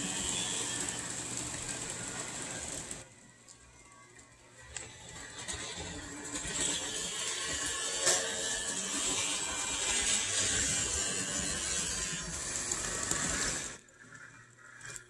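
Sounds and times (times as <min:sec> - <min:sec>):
model train motor whirring: 0:00.0 - 0:03.0, 0:04.6 - 0:15.0.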